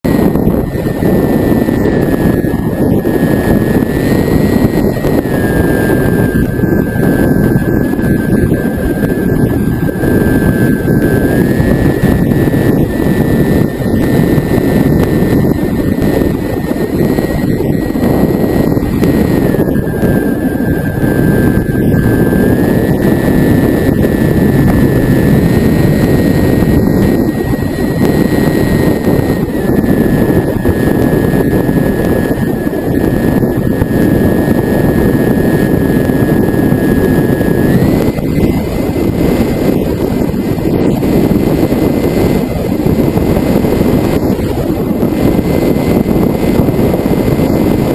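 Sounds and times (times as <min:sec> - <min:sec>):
model airplane motor whine: 0:00.0 - 0:47.9
propeller and airflow rushing: 0:00.0 - 0:47.9.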